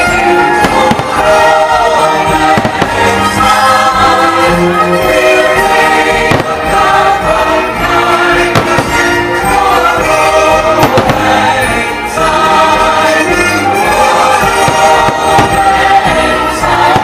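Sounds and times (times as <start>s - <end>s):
show music with choir singing: 0.0s - 17.0s.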